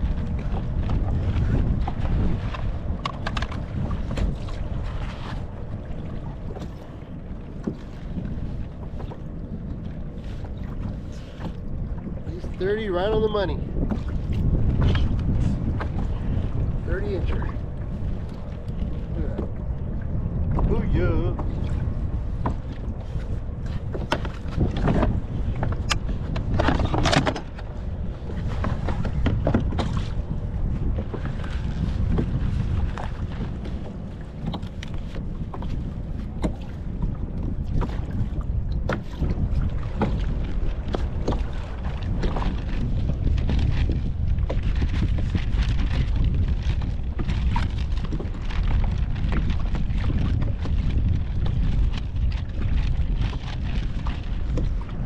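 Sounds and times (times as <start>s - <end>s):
waves slapping against hull: 0.0s - 55.0s
wind buffeting microphone: 0.0s - 55.0s.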